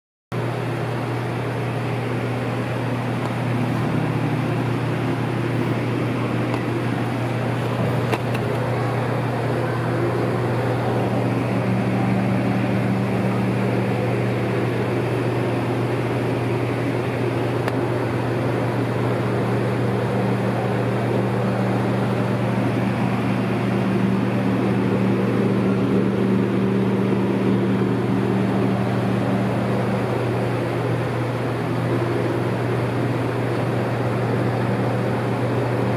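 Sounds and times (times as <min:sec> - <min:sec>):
constant rushing background: 0:00.4 - 0:35.9
low machinery hum: 0:00.4 - 0:35.9.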